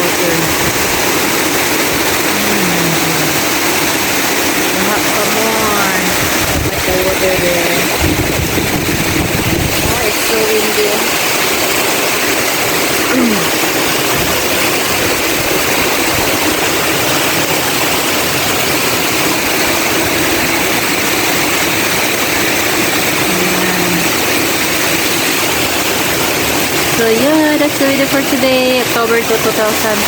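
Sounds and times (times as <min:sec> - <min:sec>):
strong wind: 0:00.0 - 0:27.1
heavy rain pouring: 0:00.0 - 0:30.0.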